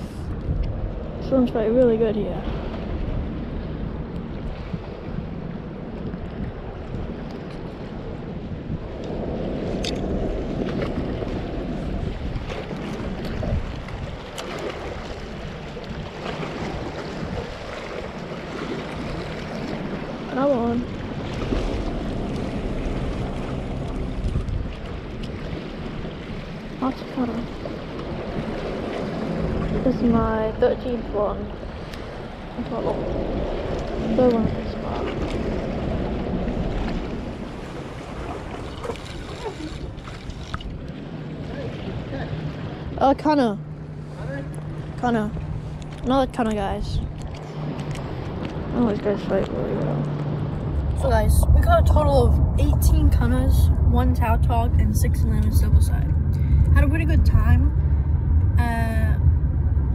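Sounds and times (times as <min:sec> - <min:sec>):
water lapping against rocks: 0:00.0 - 0:58.0
wind buffeting microphone: 0:00.0 - 0:59.9.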